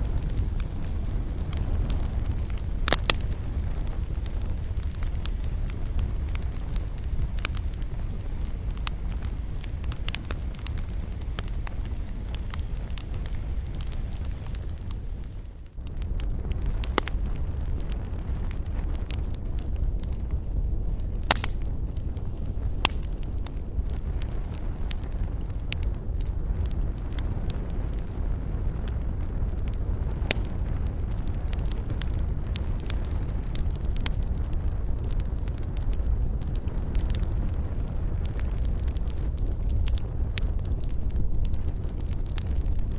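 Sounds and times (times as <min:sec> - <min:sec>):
fire crackles and pops: 0:00.0 - 0:42.9
wood fire rumbling: 0:00.0 - 0:42.9.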